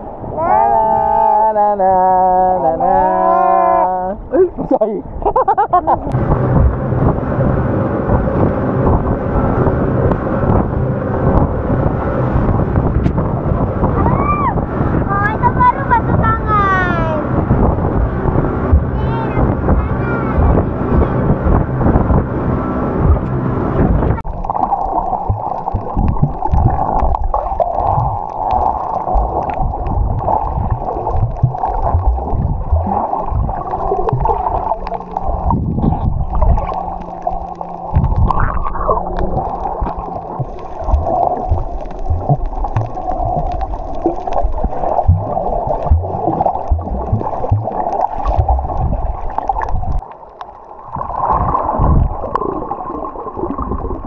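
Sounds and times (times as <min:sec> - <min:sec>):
water gurgling and sloshing: 0:00.0 - 0:54.0
steady hum: 0:01.6 - 0:52.6.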